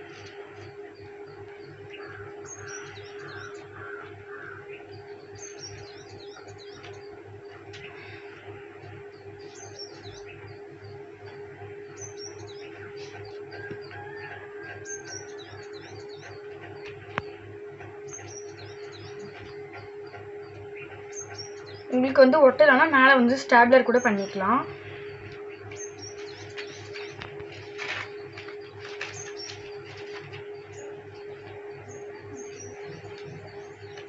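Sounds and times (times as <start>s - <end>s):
small birds chirping: 0.0s - 34.0s
steady hum: 0.0s - 34.0s.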